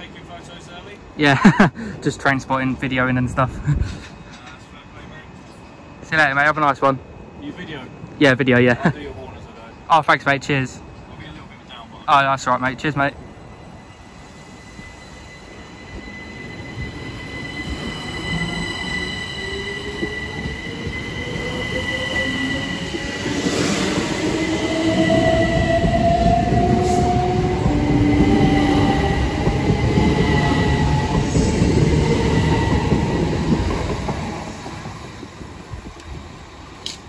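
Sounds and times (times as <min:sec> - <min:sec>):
train wheel and running noise: 0:00.0 - 0:13.4, 0:14.0 - 0:37.0.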